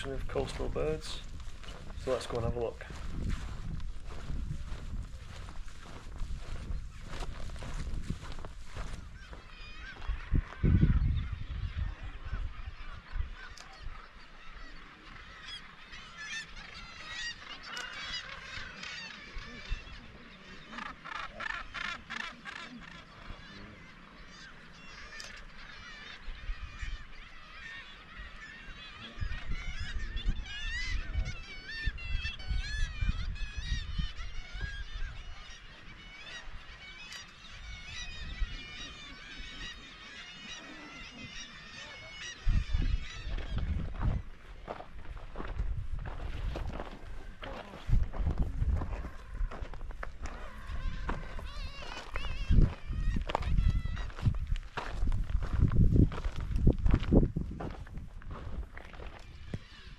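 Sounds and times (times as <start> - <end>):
seabirds calling: 0.0 - 59.9.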